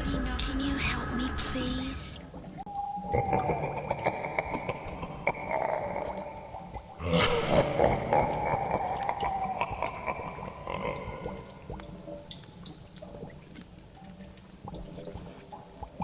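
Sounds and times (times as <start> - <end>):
dripping gurgling liquid: 2.2 - 16.0.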